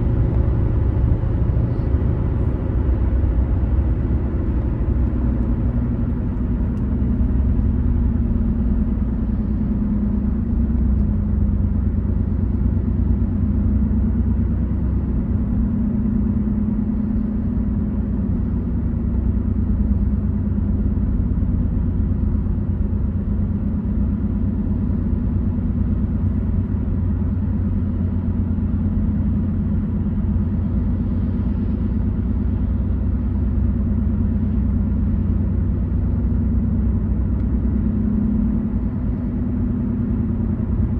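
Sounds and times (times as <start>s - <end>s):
car engine rumble: 0.0s - 40.9s.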